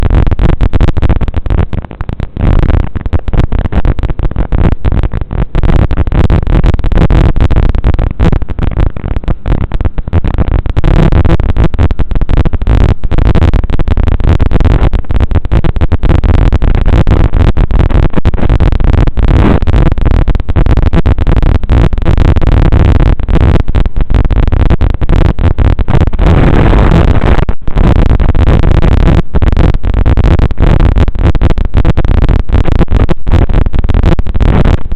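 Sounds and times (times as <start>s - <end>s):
wind noise on microphone: 0.0s - 34.9s.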